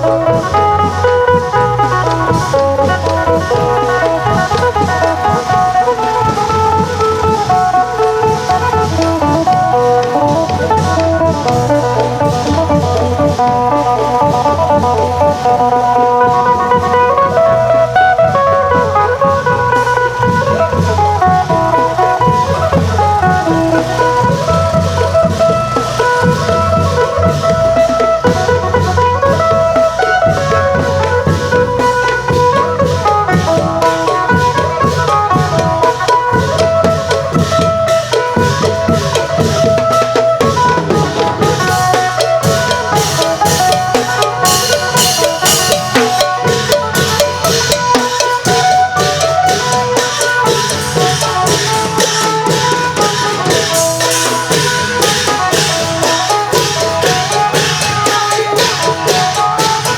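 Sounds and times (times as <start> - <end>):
cymbals: 0.0 - 59.9
long drums: 0.0 - 59.9
plucked lute melody: 0.0 - 59.9.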